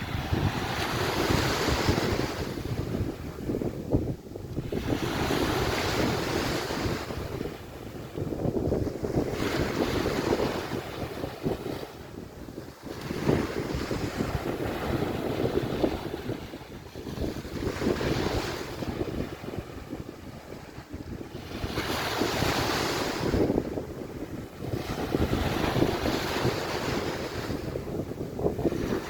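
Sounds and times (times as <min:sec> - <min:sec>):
waves washing onto beach: 0:00.0 - 0:29.0
wind buffeting microphone: 0:00.0 - 0:29.0.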